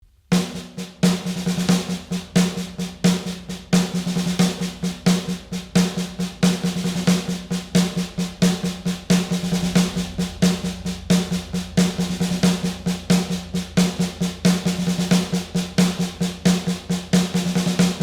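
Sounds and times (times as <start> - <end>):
drum kit beat: 0.3 - 18.0.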